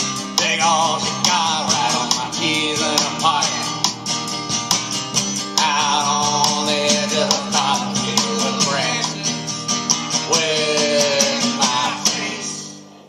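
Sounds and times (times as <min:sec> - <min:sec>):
strummed acoustic guitar: 0:00.0 - 0:13.0
person singing: 0:00.3 - 0:04.0, 0:05.6 - 0:12.8.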